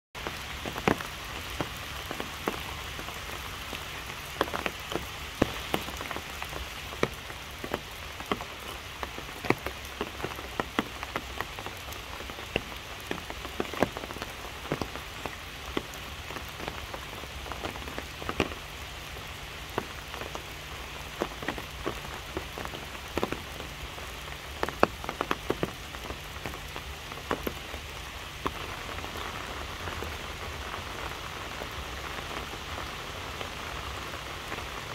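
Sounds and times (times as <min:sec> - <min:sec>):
raindrops ticking: 0:00.2 - 0:34.9
steady rain hissing: 0:00.2 - 0:34.9.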